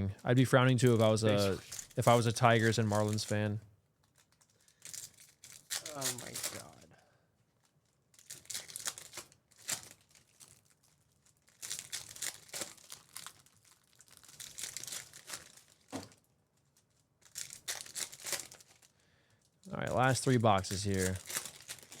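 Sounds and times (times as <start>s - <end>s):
wrappers tearing and crinkling: 0.8s - 6.9s, 7.6s - 22.0s.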